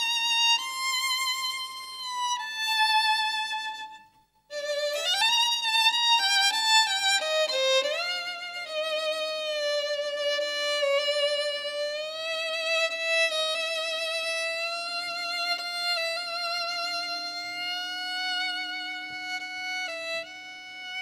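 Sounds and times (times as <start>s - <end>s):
violin melody with slides: 0.0s - 21.0s.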